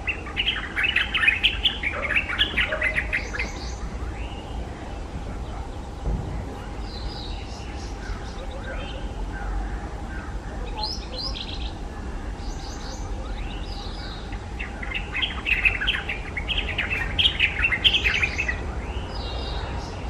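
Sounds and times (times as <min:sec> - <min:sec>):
bulbul song: 0:00.0 - 0:09.2, 0:10.6 - 0:19.3.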